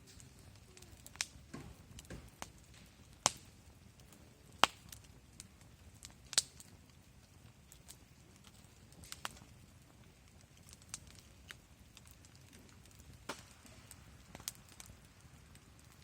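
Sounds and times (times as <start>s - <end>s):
sharp fire pops: 0.0s - 16.0s
wood fire crackling: 0.0s - 16.0s.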